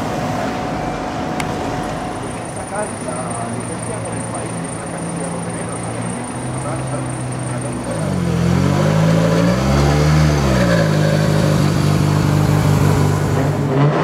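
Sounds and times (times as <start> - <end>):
rally car engine idling and revving: 0.0 - 14.0.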